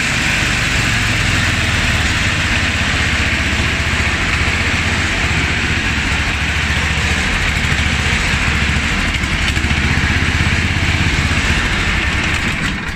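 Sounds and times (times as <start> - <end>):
snowblower engine running: 0.0 - 12.9.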